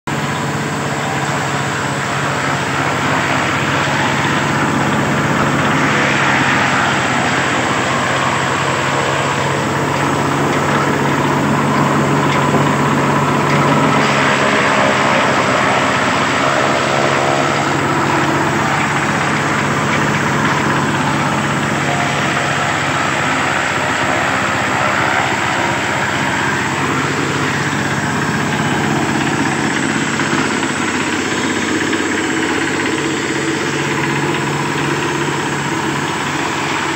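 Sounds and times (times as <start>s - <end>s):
diesel engine hum: 0.0s - 36.9s
forage chopper chopping and blowing: 0.2s - 36.9s.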